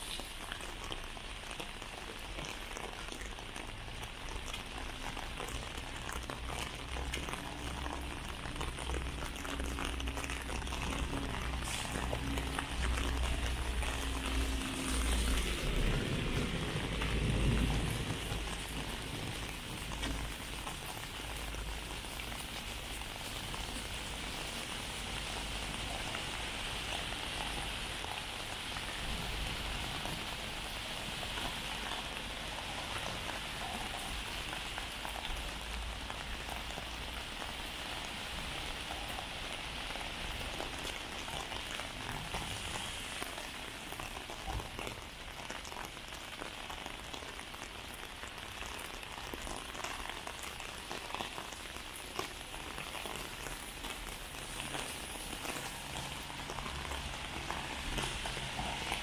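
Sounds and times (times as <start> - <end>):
heavy rain: 0.0 - 59.0
raindrops ticking close by: 0.0 - 59.0.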